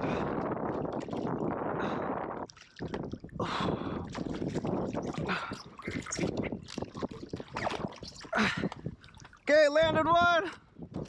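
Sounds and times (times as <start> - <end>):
water splashing: 0.6 - 9.6.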